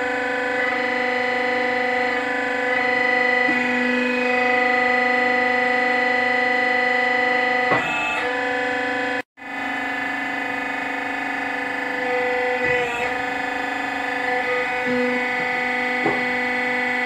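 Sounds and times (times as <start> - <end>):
hydraulic power pack whining: 0.0 - 17.0.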